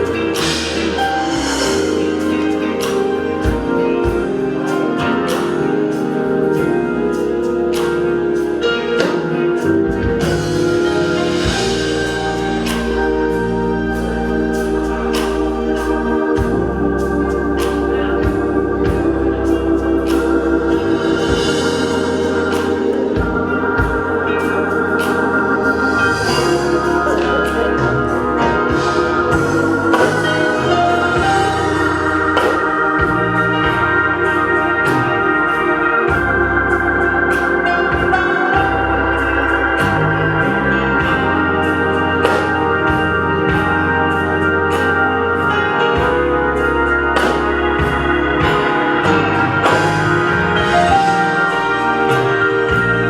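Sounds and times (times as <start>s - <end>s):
drum and cymbal beat: 0.0s - 53.0s
organ chords: 0.0s - 53.0s.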